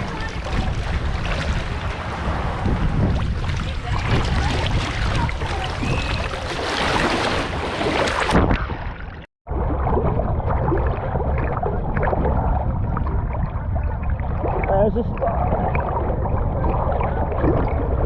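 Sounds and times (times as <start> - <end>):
wind buffeting microphone: 0.0 - 8.7, 10.2 - 18.0
shoreline water: 0.0 - 18.0.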